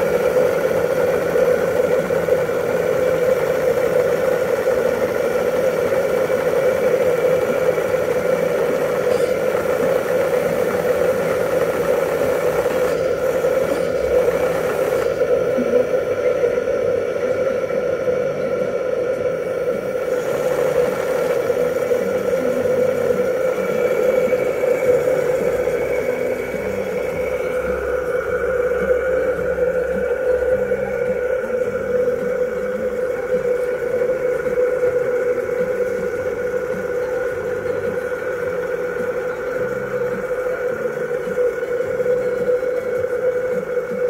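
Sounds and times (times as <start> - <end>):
steam engine running: 0.0 - 44.0.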